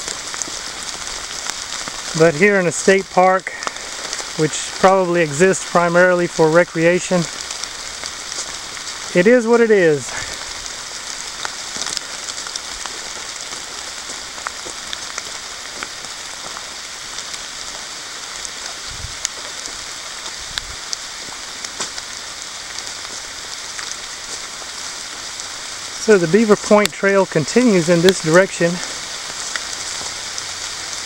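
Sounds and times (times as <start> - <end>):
rain falling on leaves: 0.0 - 31.0.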